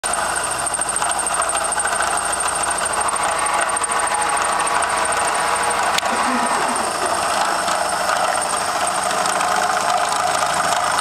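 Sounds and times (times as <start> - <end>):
high constant whine: 0.1 - 11.0
milling machine cutting metal: 0.1 - 11.0.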